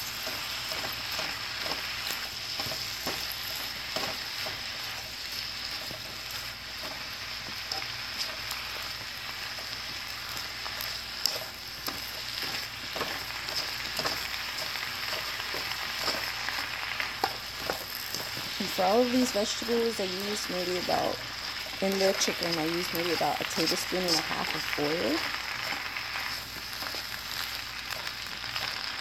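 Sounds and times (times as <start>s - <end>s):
food sizzling in a pan: 0.0s - 29.0s
tongs clicking and scraping pan: 0.0s - 29.0s.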